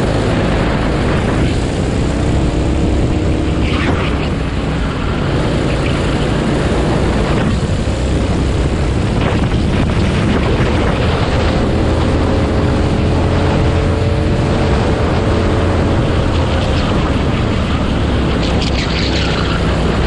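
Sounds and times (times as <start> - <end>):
go-kart engine running hard: 0.0 - 20.0
wind buffeting microphone: 0.0 - 20.0.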